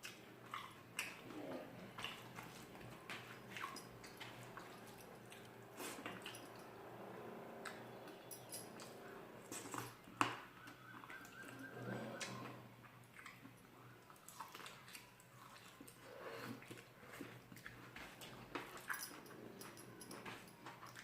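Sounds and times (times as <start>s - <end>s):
wet chewing and mouth clicks: 0.0s - 6.6s, 7.6s - 21.0s.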